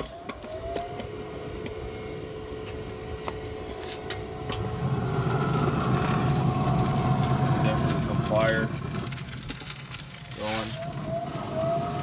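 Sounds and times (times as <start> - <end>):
fire crackling: 0.0 - 12.0
grill humming: 0.0 - 12.0
low rumble of fire: 0.0 - 12.0.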